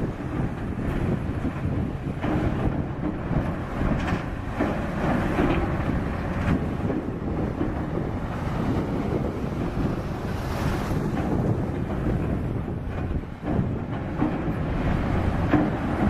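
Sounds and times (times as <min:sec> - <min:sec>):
heavy machinery rumbling: 0:00.0 - 0:16.0
wind buffeting microphone: 0:00.0 - 0:16.0.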